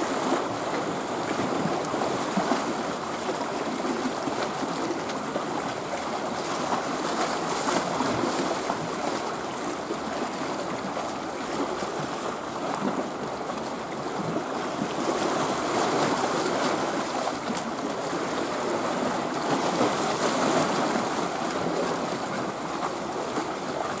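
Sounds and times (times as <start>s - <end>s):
small waves lapping shore: 0.0s - 24.0s.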